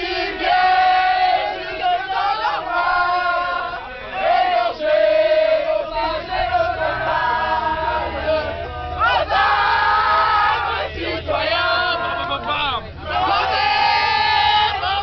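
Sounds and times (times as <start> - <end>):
group singing and chanting: 0.0 - 15.0.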